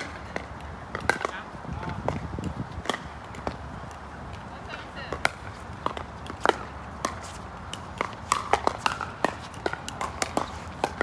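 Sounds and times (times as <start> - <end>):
ball bouncing on court: 0.0 - 11.0
paddles striking plastic ball: 0.0 - 11.0.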